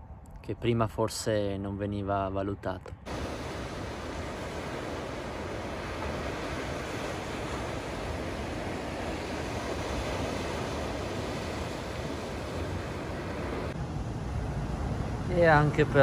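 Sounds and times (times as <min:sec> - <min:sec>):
small waves breaking on beach: 0:03.0 - 0:16.0.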